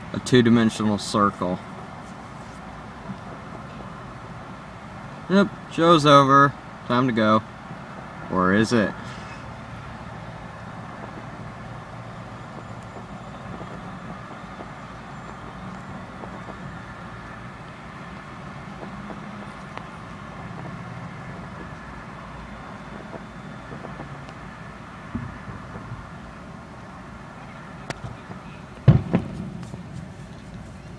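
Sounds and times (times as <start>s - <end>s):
low outdoor rumble: 0.0s - 30.9s.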